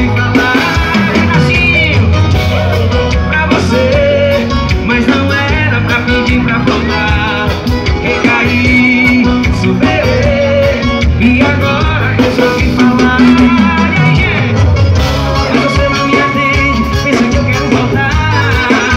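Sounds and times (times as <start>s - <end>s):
drums: 0.0s - 18.9s
electric guitar: 0.0s - 18.9s
man singing into a microphone: 0.0s - 18.9s.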